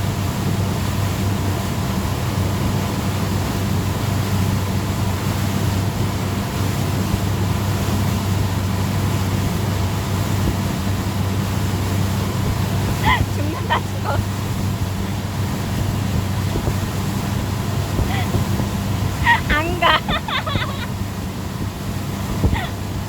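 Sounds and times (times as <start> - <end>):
motorboat engine humming: 0.0 - 23.0
water rushing around hull: 0.0 - 23.0.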